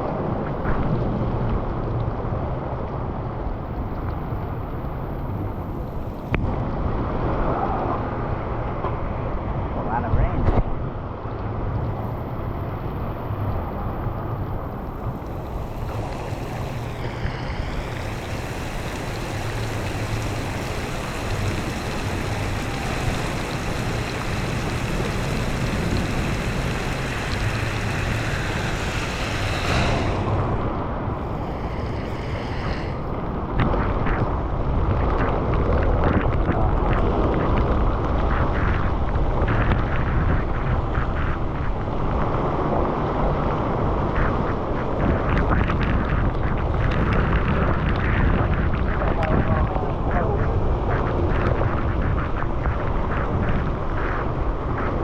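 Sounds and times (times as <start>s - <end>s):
low rumble with crackles: 0.0s - 55.0s
wind buffeting microphone: 0.0s - 55.0s
wet road noise: 1.2s - 6.6s, 11.2s - 55.0s.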